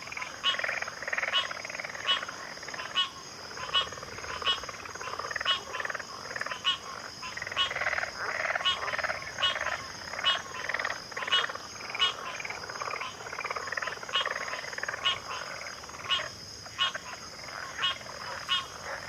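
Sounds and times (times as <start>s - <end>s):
frogs calling: 0.0s - 19.0s
frogs croaking: 0.0s - 19.0s.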